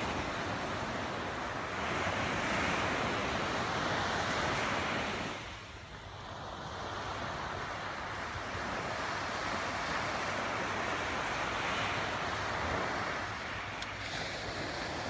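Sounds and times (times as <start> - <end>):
small waves washing ashore: 0.0 - 15.0.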